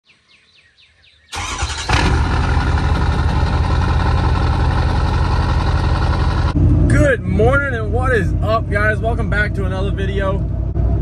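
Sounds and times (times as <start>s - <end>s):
diesel engine cranking: 1.3s - 10.9s
diesel engine running: 1.4s - 11.0s.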